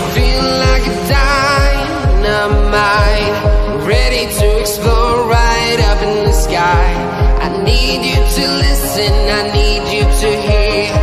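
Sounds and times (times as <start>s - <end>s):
deep kick drum: 0.0s - 11.0s
pop music: 0.0s - 11.0s
sustained synth chords: 0.0s - 11.0s.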